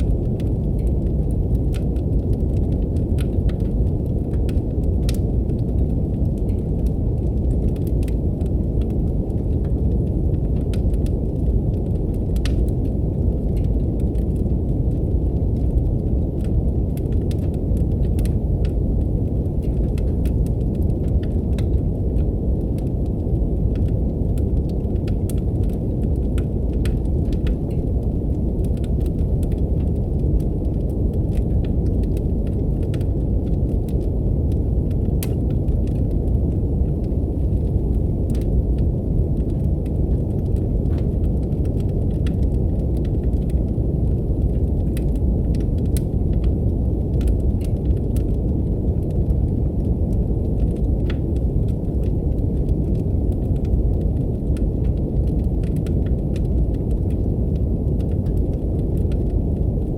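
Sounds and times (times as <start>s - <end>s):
brown noise rumbling hiss: 0.0s - 59.9s
wood fire crackling: 0.0s - 59.9s.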